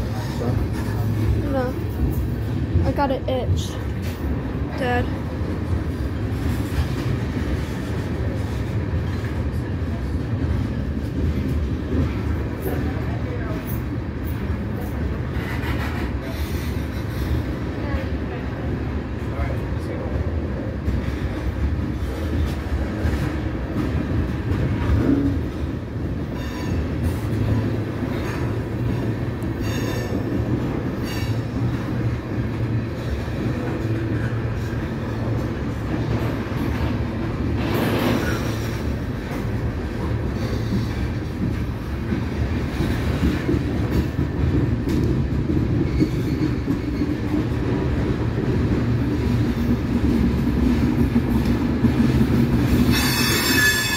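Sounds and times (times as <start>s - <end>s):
train cars clanking: 0.0s - 53.9s
train wheels rumbling on rail: 0.0s - 53.9s.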